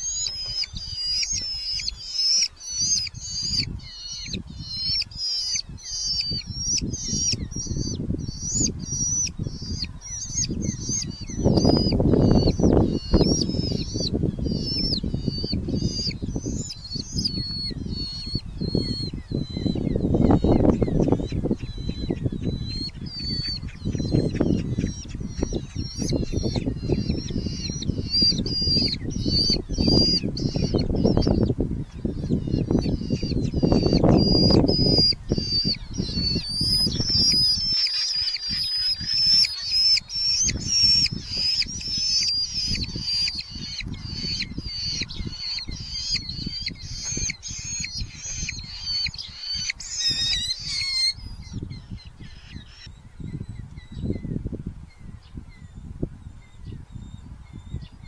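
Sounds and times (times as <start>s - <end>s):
falcon chicks calling: 0.0s - 54.3s.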